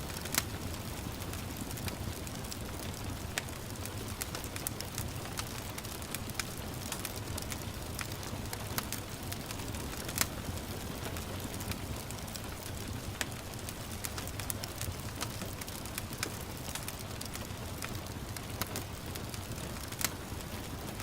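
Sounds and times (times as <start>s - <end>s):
gentle rain: 0.0s - 21.0s
wood fire crackling: 0.0s - 21.0s.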